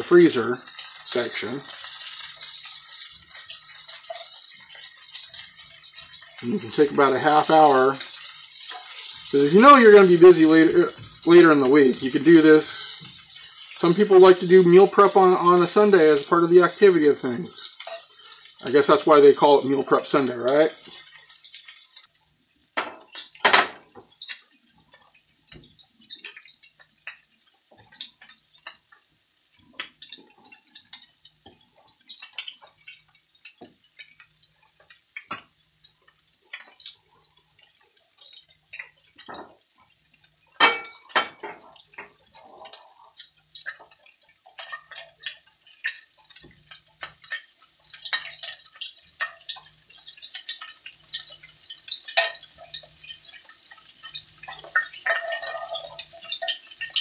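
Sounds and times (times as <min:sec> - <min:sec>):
meatballs sizzling in oil: 0:00.0 - 0:57.0.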